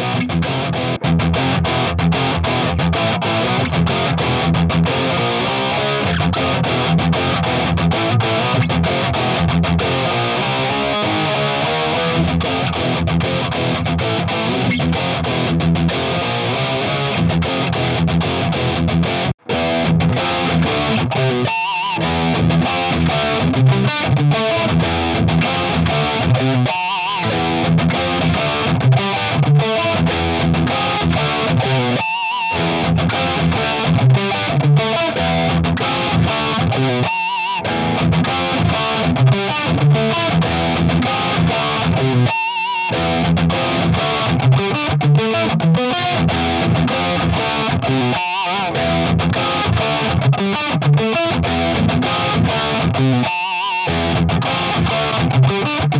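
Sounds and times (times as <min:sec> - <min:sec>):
distorted electric guitar riff: 0:00.0 - 0:55.9.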